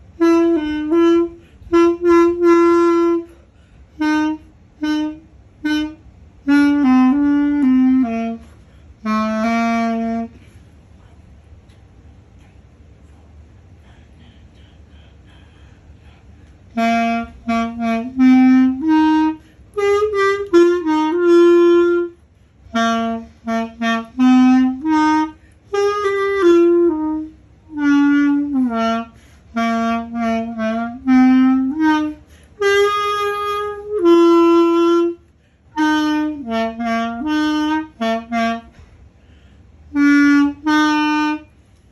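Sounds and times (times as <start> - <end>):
solo clarinet melody: 0.0 - 10.4, 16.7 - 38.9, 39.8 - 41.9.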